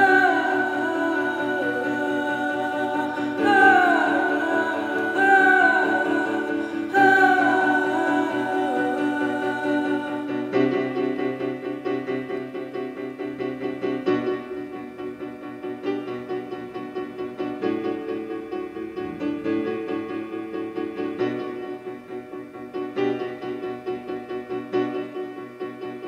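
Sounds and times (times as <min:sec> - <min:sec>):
keyboard background music: 0:00.0 - 0:26.0.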